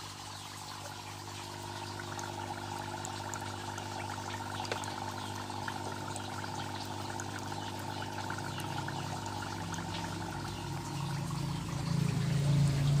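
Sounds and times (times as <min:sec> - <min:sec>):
water pouring and trickling: 0:00.0 - 0:13.0
water pump humming: 0:00.0 - 0:13.0.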